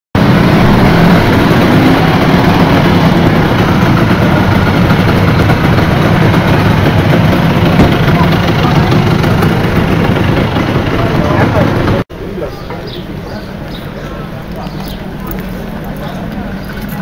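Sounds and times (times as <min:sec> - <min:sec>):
scooter engines idling: 0:00.2 - 0:17.0.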